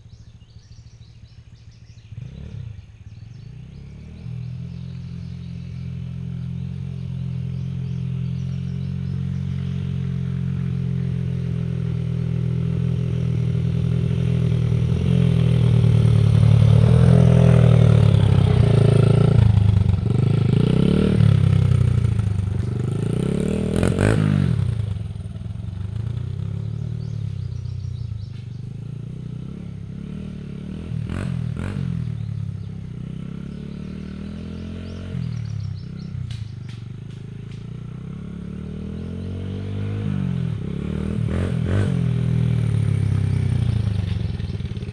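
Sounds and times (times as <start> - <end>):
dirt bike engine revving: 2.1 - 2.8, 3.4 - 44.9.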